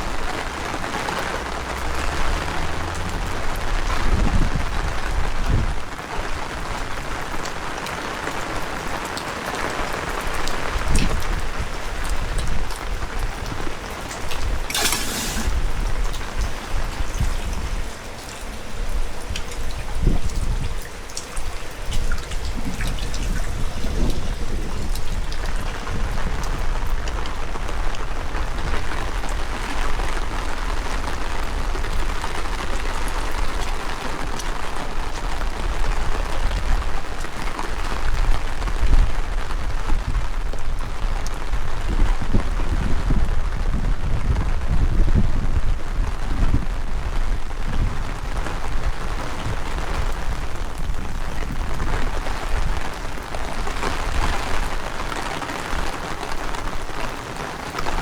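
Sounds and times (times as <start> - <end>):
wind gusts on microphone: 0.0 - 9.0, 9.7 - 58.0
heavy rain falling: 0.0 - 58.0.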